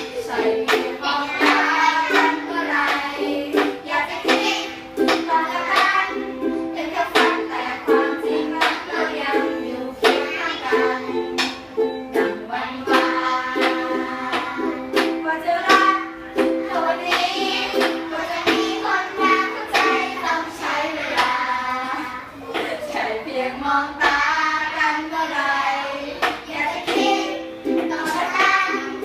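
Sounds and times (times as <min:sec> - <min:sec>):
ukulele strumming: 0:00.0 - 0:22.9, 0:24.0 - 0:29.0
voices singing: 0:00.0 - 0:29.0.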